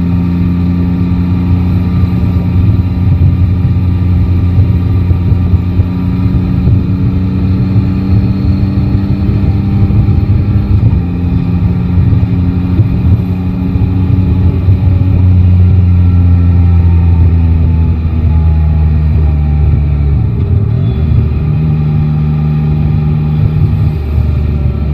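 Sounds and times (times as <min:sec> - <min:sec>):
low wind: 0:00.0 - 0:24.9
motorcycle engine running: 0:00.0 - 0:24.9
road rush: 0:00.0 - 0:24.9.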